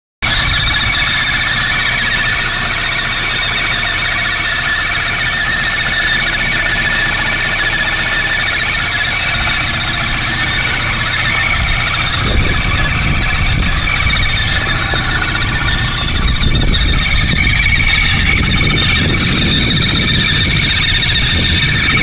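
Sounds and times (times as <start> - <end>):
engine belt screeching: 0.2 - 22.0
engine low rumble: 0.2 - 22.0.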